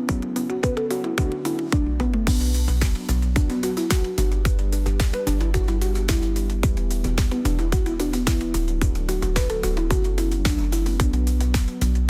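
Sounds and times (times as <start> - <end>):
deep kick drums: 0.1 - 12.0.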